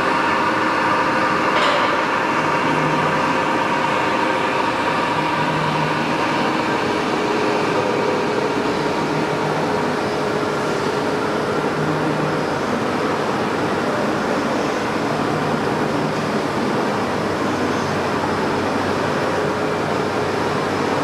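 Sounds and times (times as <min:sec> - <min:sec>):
lathe running: 0:00.0 - 0:21.0.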